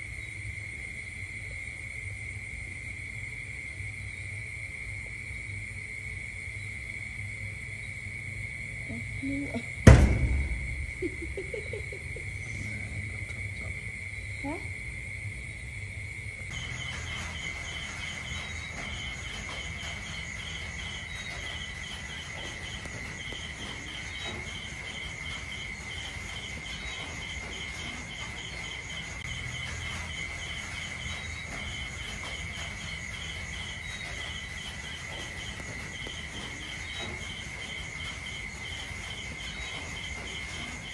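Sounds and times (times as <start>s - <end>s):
crickets chirping: 0.0s - 40.9s
high insect trill: 0.0s - 40.9s.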